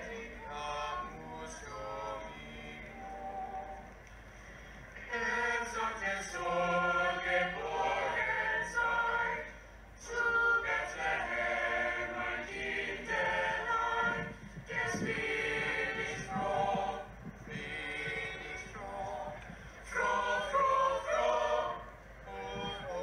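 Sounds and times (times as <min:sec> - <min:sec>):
choir singing unaccompanied: 0:00.0 - 0:04.0, 0:05.0 - 0:23.0.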